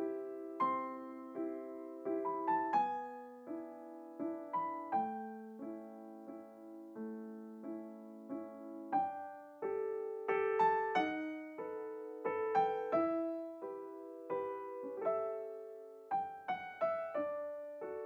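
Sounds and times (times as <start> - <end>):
slow gentle solo piano: 0.0 - 18.0.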